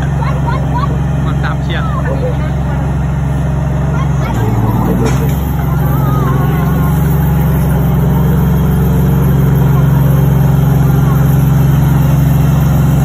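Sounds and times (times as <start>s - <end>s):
tank diesel engine droning: 0.0s - 13.0s.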